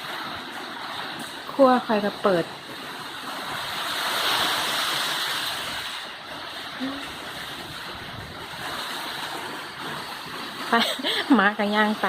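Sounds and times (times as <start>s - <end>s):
storm wind: 0.0s - 11.4s
rain rushing: 0.0s - 12.0s.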